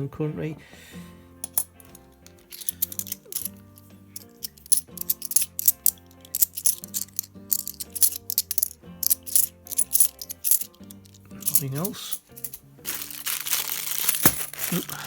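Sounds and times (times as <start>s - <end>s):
background music with held notes: 0.0s - 15.0s
coins clinking: 1.4s - 15.0s.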